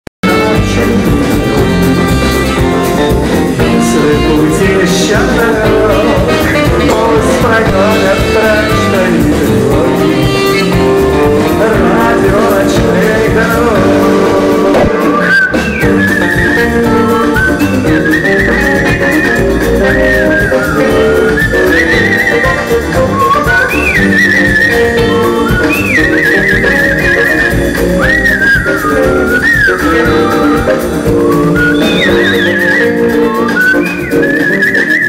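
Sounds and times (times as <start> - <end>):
live rock band playing: 0.2 - 35.0.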